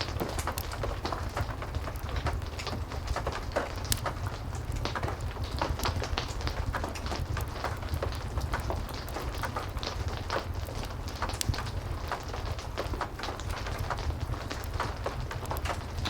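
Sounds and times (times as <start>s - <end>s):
fireplace crackling: 0.0s - 16.0s
heavy rain falling: 0.0s - 16.0s.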